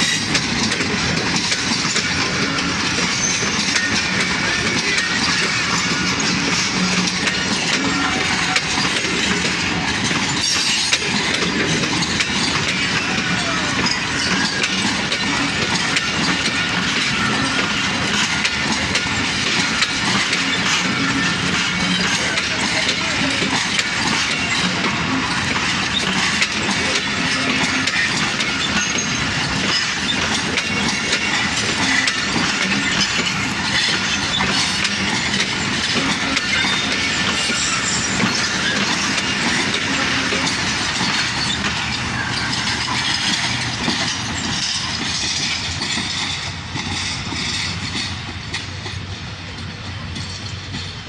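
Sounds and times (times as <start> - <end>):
train wheels clattering over rail joints: 0.0 - 51.0.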